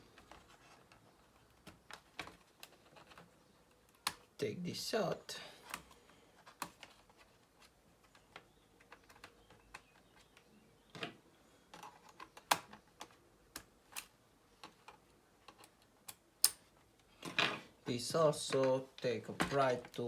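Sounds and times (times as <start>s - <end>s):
plastic laptop parts clicking: 0.0s - 4.4s, 5.6s - 17.4s.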